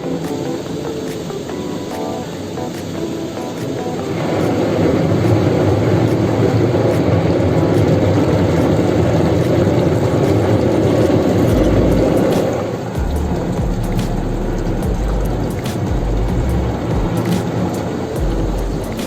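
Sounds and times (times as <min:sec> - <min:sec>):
car wash machine rushing: 0:00.0 - 0:19.0.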